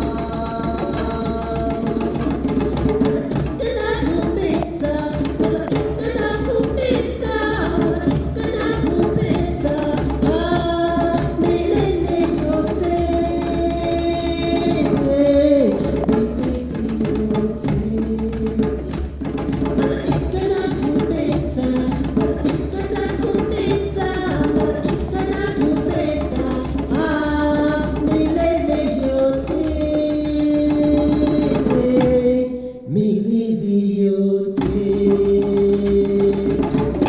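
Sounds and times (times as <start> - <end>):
steady drum beat: 0.0 - 32.4.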